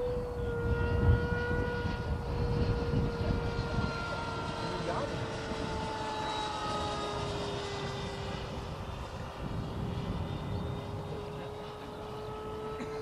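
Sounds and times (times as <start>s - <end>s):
electric ducted fan whining: 0.0s - 13.0s.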